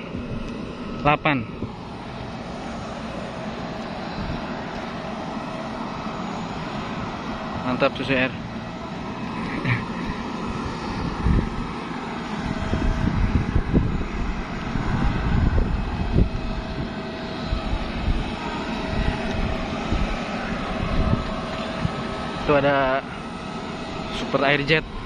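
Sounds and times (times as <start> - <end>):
aircraft engine hum: 0.0 - 25.0.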